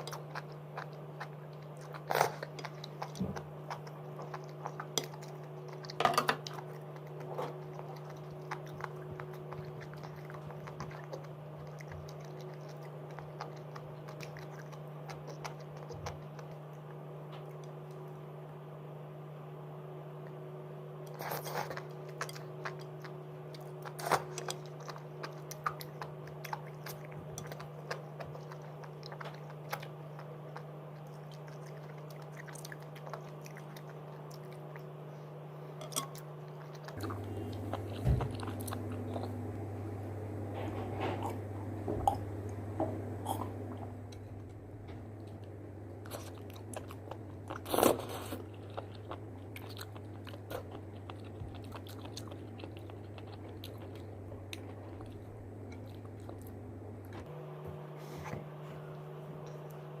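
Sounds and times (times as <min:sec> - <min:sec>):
chewing and biting mushrooms: 0:00.0 - 0:18.1, 0:21.0 - 0:39.6, 0:45.1 - 0:57.3.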